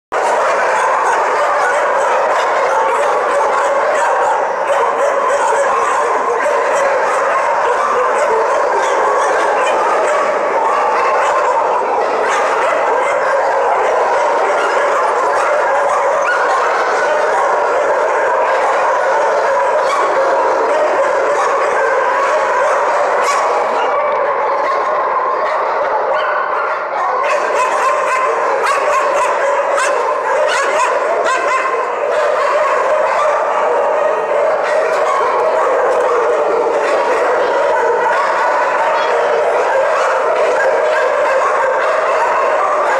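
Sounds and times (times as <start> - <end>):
many dogs barking and yelping: 0.1 - 42.9.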